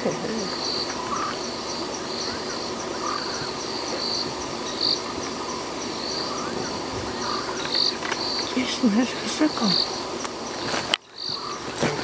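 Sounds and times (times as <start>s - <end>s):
cricket trill: 0.0s - 12.0s
short low insect calls: 0.0s - 12.0s.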